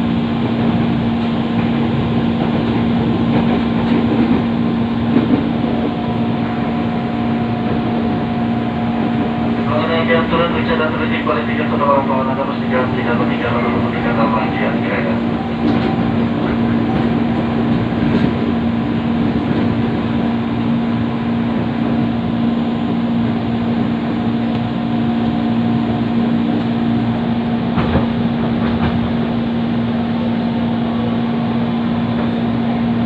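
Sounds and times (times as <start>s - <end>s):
electric train rolling rumble: 0.0s - 33.0s.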